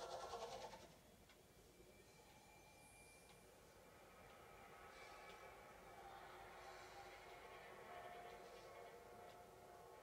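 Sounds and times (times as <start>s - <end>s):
thin steady high tone: 1.6s - 10.0s.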